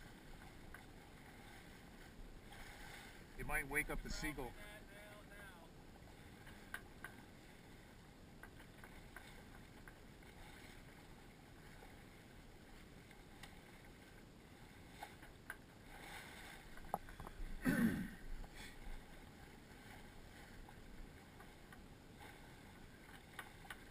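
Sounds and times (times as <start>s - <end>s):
water and wind wash: 0.0s - 23.9s.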